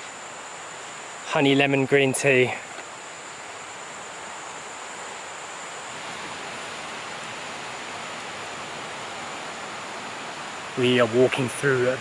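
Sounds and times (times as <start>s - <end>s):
faint high-pitched whine: 0.0s - 12.0s
forest hiss: 0.0s - 12.0s.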